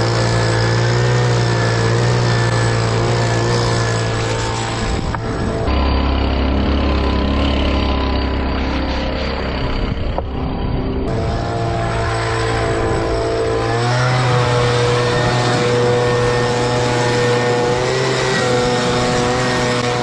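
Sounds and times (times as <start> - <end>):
leaf blower running: 0.0 - 20.0.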